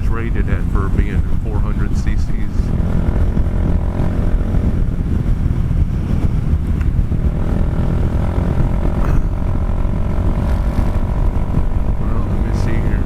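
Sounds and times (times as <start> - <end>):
wind rumble on microphone: 0.0 - 13.0
scooter engine running fast: 0.1 - 13.0.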